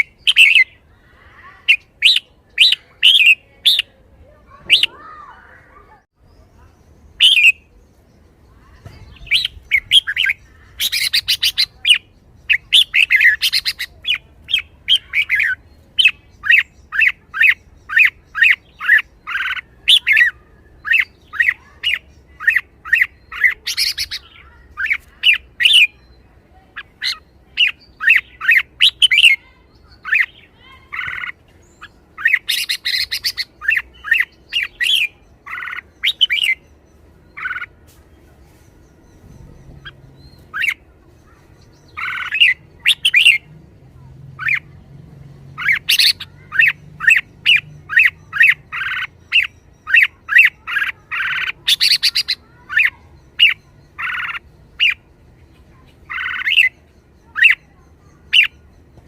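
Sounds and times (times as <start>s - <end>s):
bird calling sharp notes: 0.0s - 5.8s, 7.2s - 7.7s, 9.1s - 36.6s, 39.2s - 43.5s, 45.6s - 59.0s.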